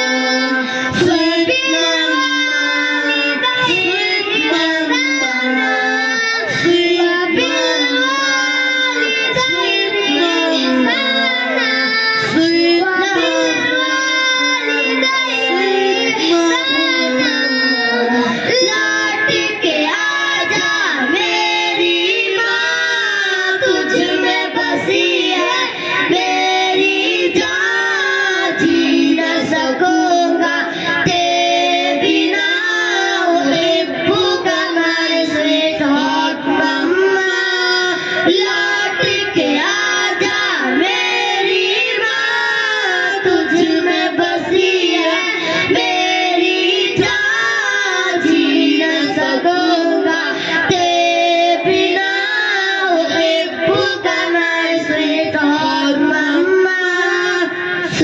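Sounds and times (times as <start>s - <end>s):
boys singing into microphones: 0.0s - 58.0s.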